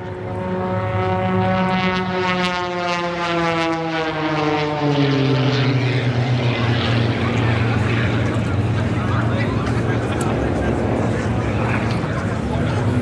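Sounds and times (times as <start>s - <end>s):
aircraft engine drone flying past: 0.0s - 13.0s.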